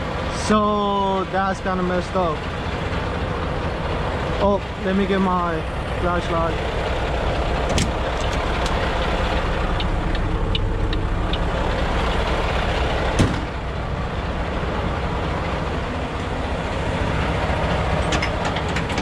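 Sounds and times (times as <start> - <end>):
truck diesel engine idling: 0.0 - 19.0.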